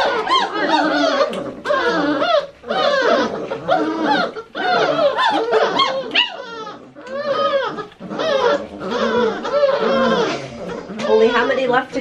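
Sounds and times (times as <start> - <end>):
puppies crying and whining: 0.0 - 12.0.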